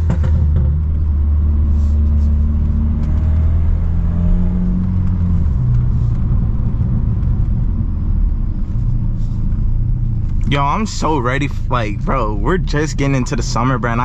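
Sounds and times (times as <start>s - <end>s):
car exhaust droning: 0.0s - 14.0s.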